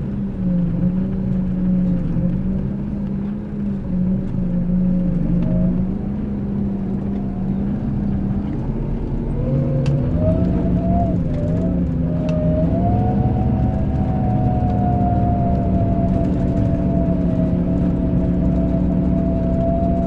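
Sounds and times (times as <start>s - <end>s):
coach diesel engine running: 0.0s - 20.0s.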